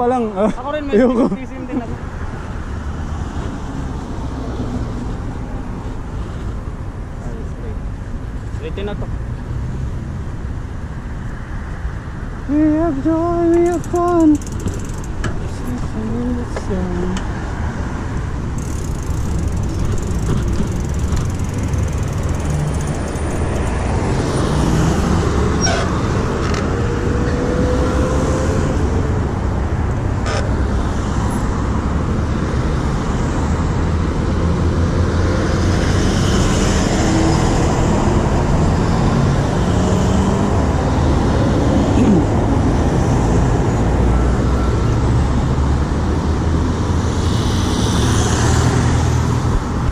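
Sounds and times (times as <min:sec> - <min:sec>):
traffic rumble: 0:00.0 - 0:49.9.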